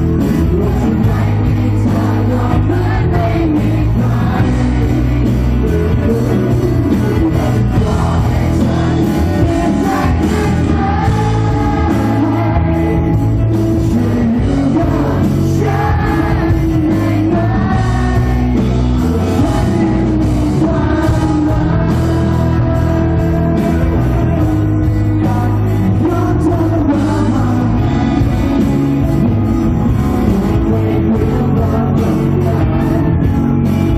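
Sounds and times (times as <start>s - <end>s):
person singing: 0.0s - 33.9s
rock band playing: 0.0s - 33.9s.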